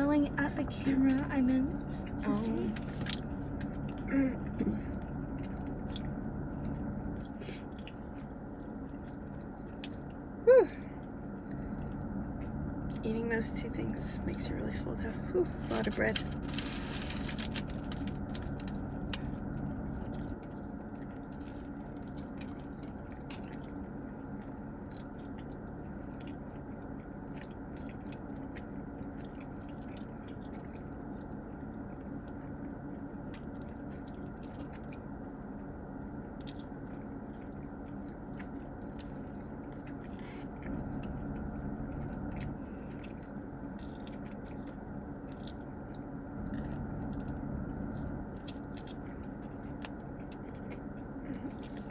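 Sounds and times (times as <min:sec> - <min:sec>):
steady low hum: 0:00.0 - 0:51.9
people chewing: 0:01.8 - 0:13.0, 0:15.6 - 0:35.0, 0:36.2 - 0:51.9.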